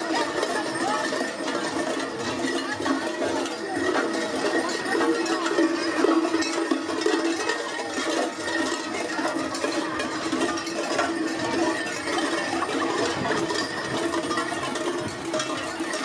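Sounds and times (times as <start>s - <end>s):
cowbells clanging: 0.0s - 16.0s.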